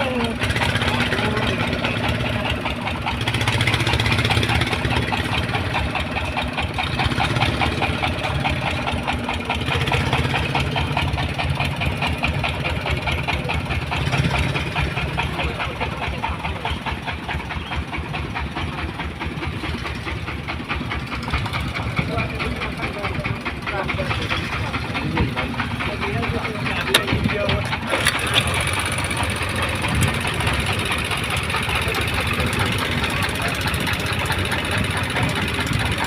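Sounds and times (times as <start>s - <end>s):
engine chugging steadily: 0.0s - 36.0s.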